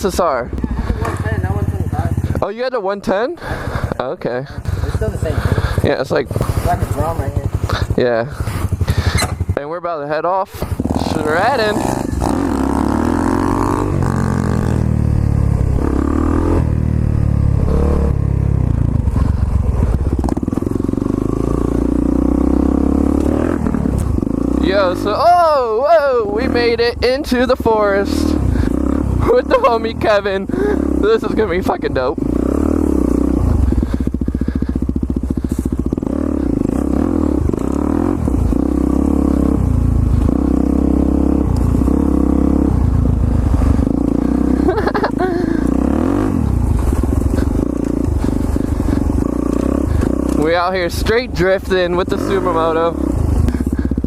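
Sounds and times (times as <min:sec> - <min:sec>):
dirt bike engines: 0:00.0 - 0:54.0.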